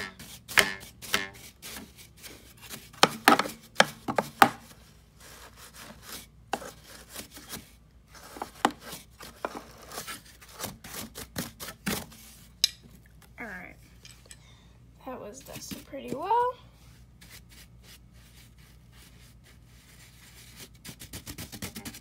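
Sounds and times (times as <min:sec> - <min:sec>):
paintbrush scrubbing plastic: 0:00.0 - 0:12.5, 0:15.4 - 0:22.0.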